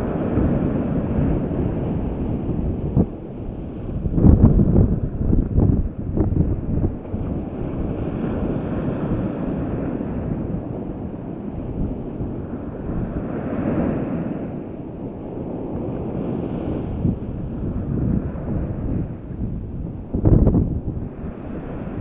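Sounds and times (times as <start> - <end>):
surf washing up beach: 0.0 - 22.0
wind rumbling on microphone: 0.0 - 22.0.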